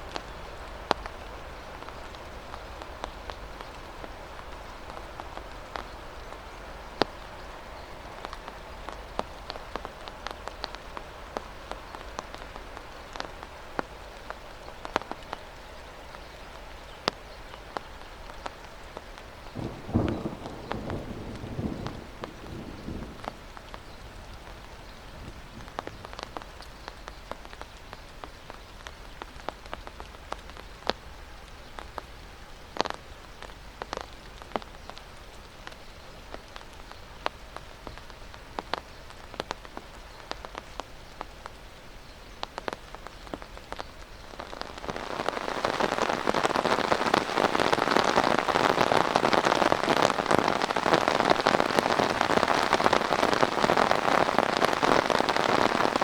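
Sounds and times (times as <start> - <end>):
heavy downpour hiss: 0.0 - 56.0
rain falling: 0.0 - 56.0
raindrops tapping: 0.0 - 56.0.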